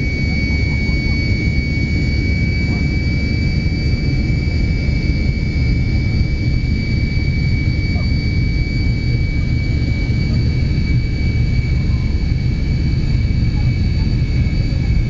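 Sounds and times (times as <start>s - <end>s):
jet engines from inside cabin: 0.0s - 15.0s.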